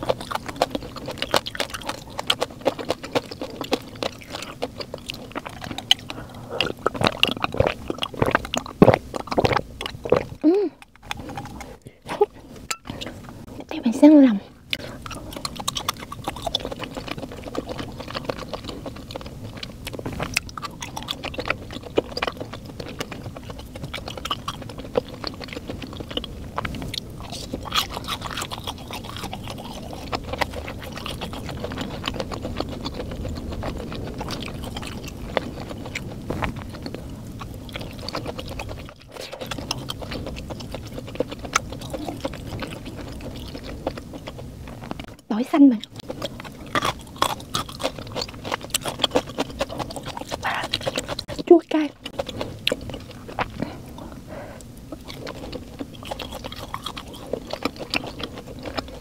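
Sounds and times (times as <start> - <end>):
person chewing: 0.0 - 13.7, 14.5 - 59.0.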